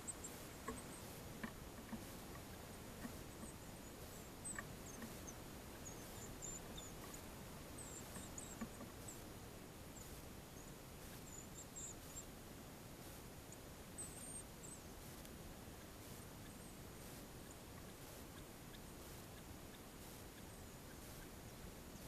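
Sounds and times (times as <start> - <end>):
faint high bird chirps: 0.0 - 12.3, 13.4 - 15.0, 15.8 - 22.0
low background hiss: 0.0 - 22.0.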